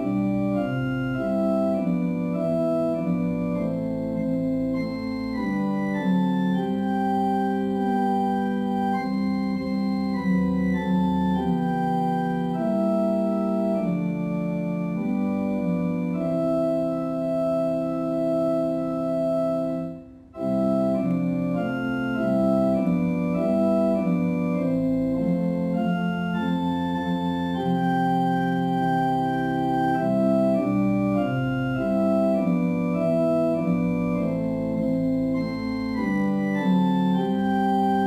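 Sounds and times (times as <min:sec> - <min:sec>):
organ playing a hymn: 0:00.0 - 0:38.0.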